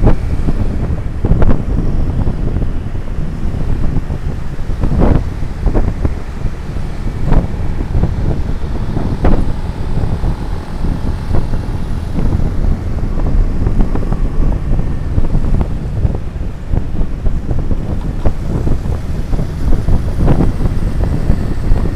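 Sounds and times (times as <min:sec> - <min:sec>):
road noise: 0:00.0 - 0:21.9
vehicle engine: 0:00.0 - 0:21.9
wind buffeting microphone: 0:00.0 - 0:21.9.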